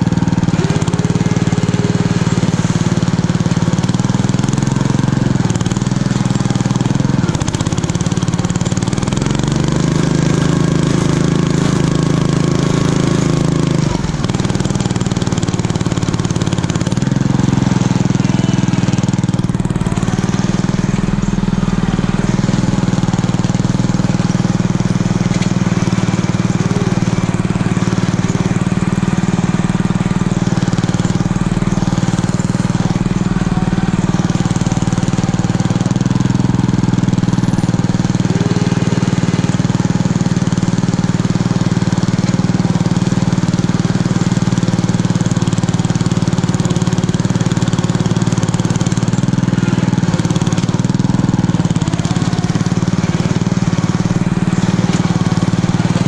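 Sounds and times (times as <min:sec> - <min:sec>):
small engine running hard: 0:00.0 - 0:56.0.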